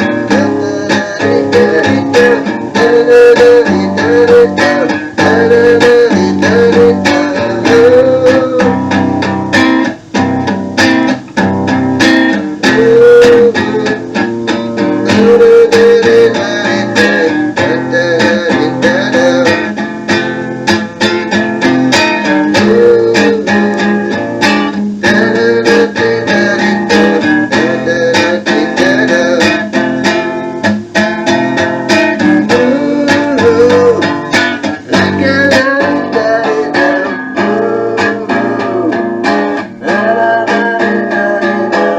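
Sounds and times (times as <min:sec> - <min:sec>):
guitar music from cassette: 0:00.0 - 0:41.9.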